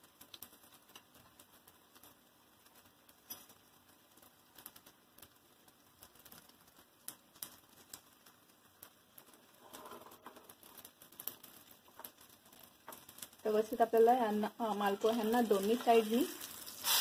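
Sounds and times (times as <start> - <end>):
hot oil crackling: 0.0 - 17.0.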